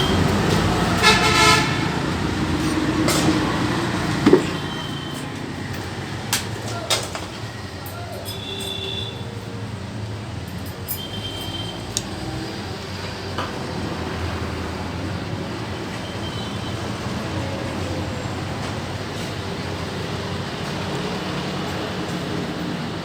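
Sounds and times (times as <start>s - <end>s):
low rumble of passing vehicles: 0.0s - 23.0s.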